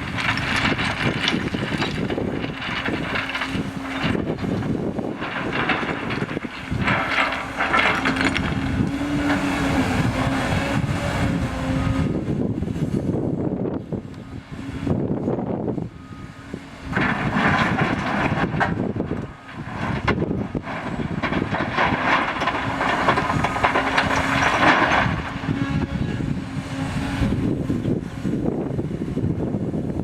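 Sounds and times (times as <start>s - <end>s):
excavator rough noise: 0.0s - 13.4s, 16.0s - 28.6s
excavator hum: 0.0s - 30.0s.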